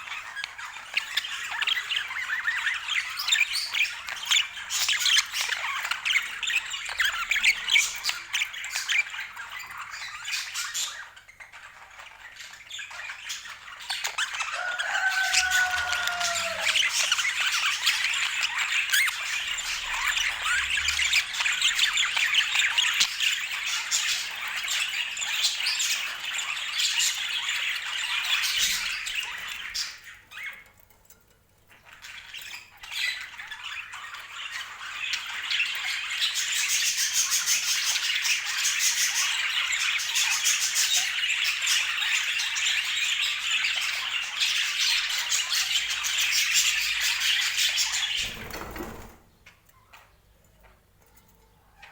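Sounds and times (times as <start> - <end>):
budgerigars chattering and squawking: 0.0 - 30.7, 31.7 - 50.2.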